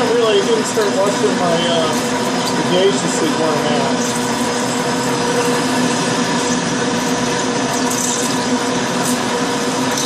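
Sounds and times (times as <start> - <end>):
coolant hiss: 0.0 - 10.0
metal lathe running: 0.0 - 10.0.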